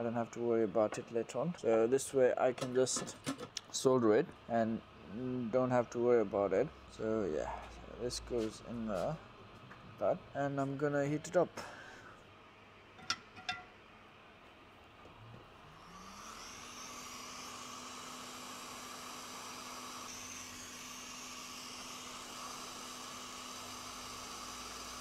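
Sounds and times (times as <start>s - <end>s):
hot air fan humming and hissing: 0.0s - 25.0s.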